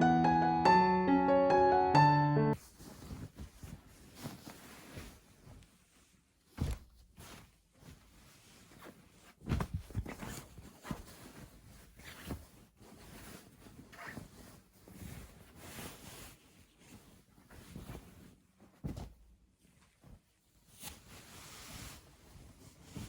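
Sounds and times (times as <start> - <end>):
rustling and handling noises: 2.6 - 23.0.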